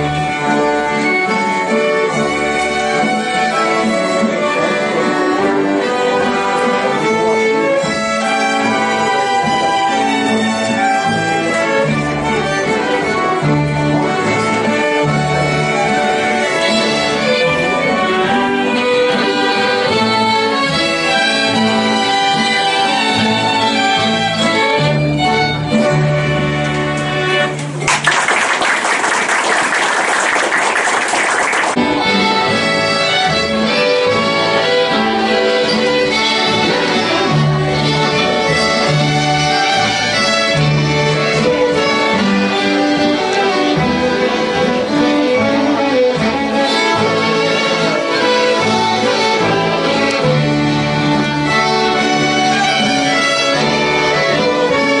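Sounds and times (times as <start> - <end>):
double bass: 0.0 - 27.8, 31.7 - 55.0
fiddles playing a folk tune: 0.0 - 27.8, 31.6 - 55.0.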